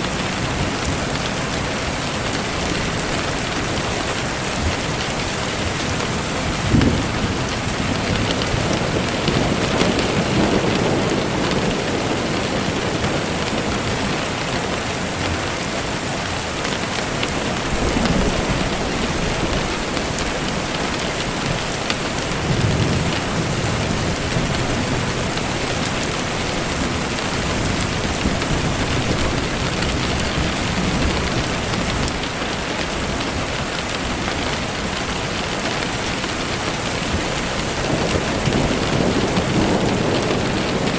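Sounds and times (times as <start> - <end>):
distant thunder rumbling: 0.0 - 15.7, 16.4 - 40.9
rain falling: 0.0 - 40.9.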